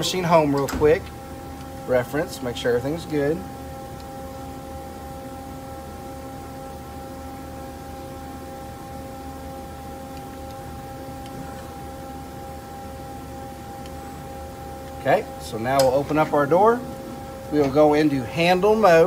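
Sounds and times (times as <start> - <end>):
lathe humming: 0.0 - 19.0.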